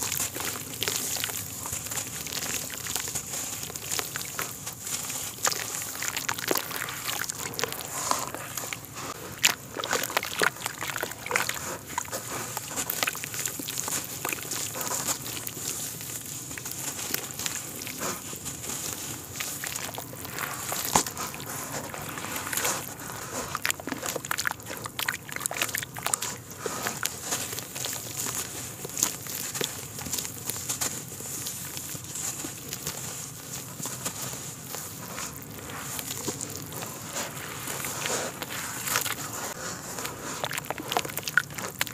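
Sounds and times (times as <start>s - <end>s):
clay crumbling between wet hands: 0.0s - 41.9s
crumbs splashing into water: 0.0s - 41.9s.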